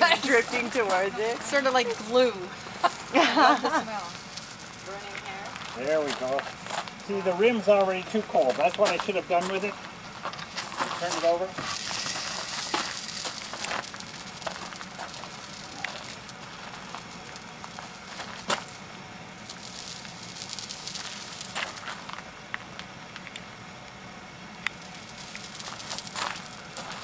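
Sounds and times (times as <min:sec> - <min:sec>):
hot pot crackling and hissing: 0:00.0 - 0:27.0.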